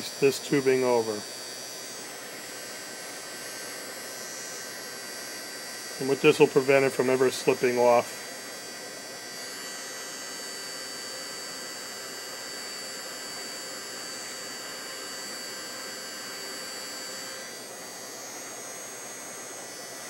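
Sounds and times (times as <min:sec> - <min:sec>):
heat gun blowing: 0:00.0 - 0:20.0.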